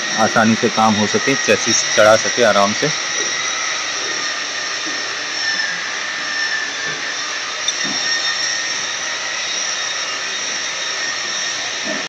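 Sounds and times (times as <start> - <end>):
machine drone with high whine: 0.0 - 12.0.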